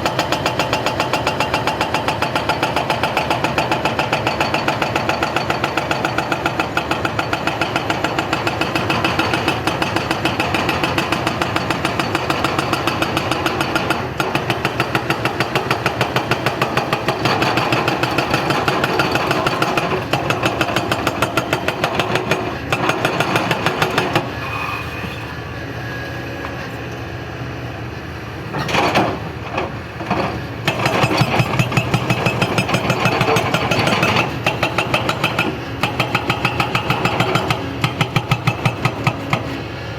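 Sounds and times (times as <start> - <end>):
excavator engine running: 0.0 - 24.4, 25.3 - 39.9.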